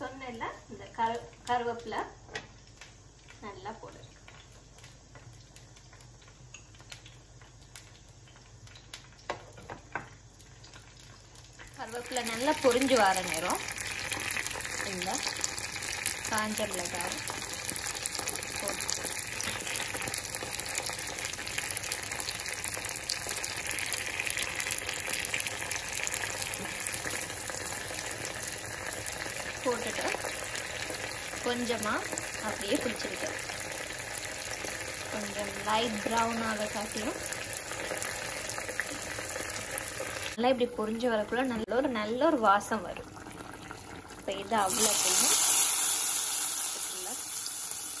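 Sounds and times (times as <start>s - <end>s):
seeds spluttering in hot oil: 0.0s - 48.0s.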